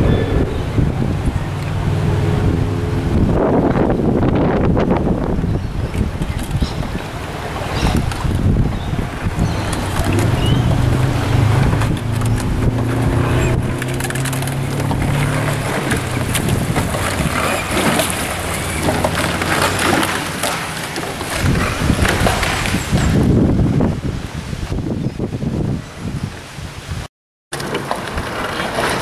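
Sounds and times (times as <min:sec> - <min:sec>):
wind buffeting microphone: 0:00.0 - 0:27.1.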